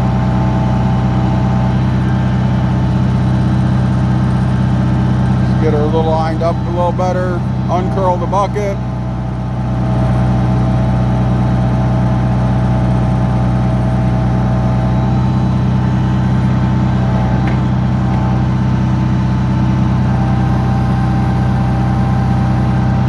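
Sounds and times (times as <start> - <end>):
backhoe engine running: 0.0 - 23.0.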